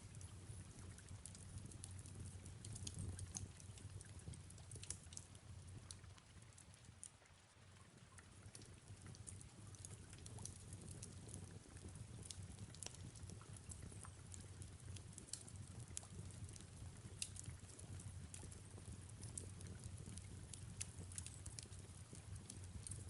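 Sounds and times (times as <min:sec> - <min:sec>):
faint fireplace crackle: 0:00.0 - 0:23.0
soft rain falling: 0:00.0 - 0:23.0.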